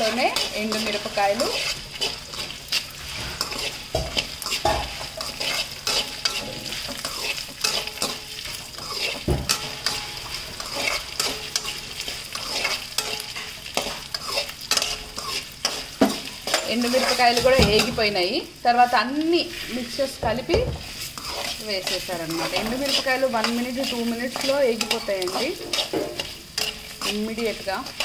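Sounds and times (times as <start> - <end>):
spatula scraping and tapping pan: 0.0 - 18.2, 19.5 - 28.0
spices sizzling in oil: 0.0 - 28.0.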